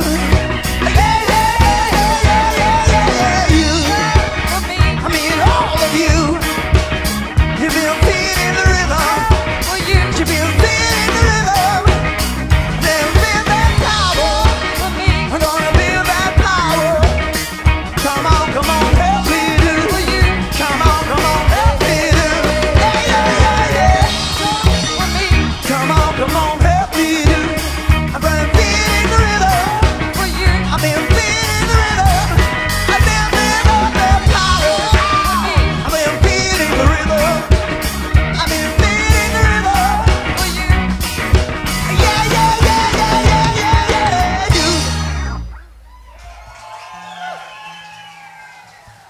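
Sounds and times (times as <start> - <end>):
person singing: 0.0 - 6.9, 7.5 - 40.8, 41.8 - 45.4
drum kit beat: 0.0 - 46.0
bending lead guitar line: 0.0 - 46.4
band playing rock song: 0.0 - 49.0.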